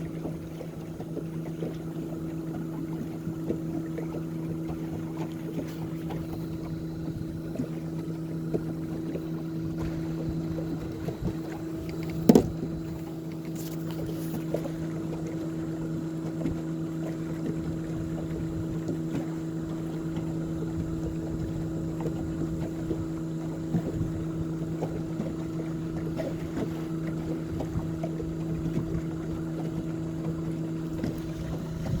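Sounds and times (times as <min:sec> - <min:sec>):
boat motor humming: 0:00.0 - 0:32.0
water: 0:00.0 - 0:32.0
wind: 0:00.0 - 0:32.0.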